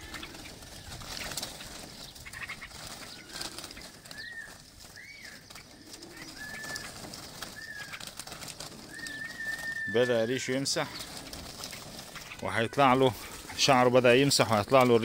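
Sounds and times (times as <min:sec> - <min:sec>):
rustling: 0:00.0 - 0:15.0
wing flutters: 0:00.0 - 0:15.0
birds whistling: 0:01.2 - 0:13.7.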